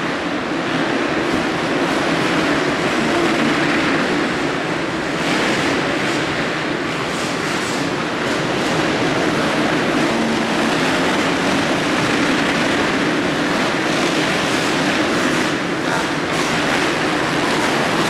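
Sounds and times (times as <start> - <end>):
motocross bike engines droning: 1.2 - 5.5, 6.9 - 18.0.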